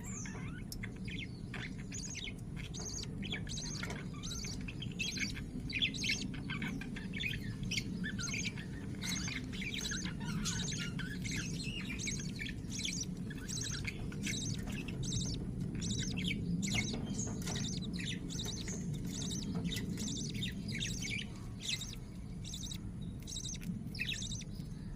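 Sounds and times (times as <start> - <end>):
lovebird chick chirping: 0.0 - 24.9
steady low hum: 0.0 - 24.9.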